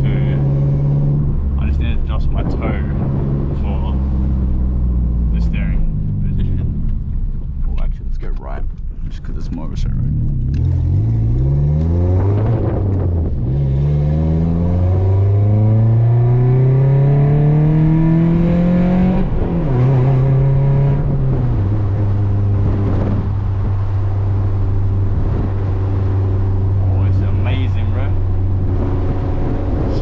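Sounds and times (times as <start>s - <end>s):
car engine accelerating through gears: 0.0s - 7.6s, 10.0s - 30.0s.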